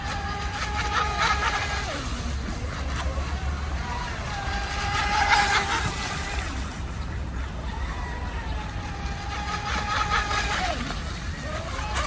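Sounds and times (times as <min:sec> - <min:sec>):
electric boat motor whining: 0:00.0 - 0:12.0.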